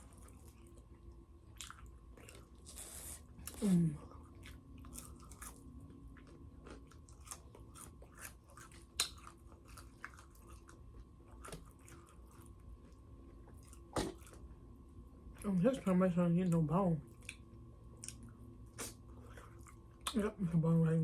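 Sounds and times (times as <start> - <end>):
chewing crispy food: 0.0 - 15.9, 17.0 - 20.2.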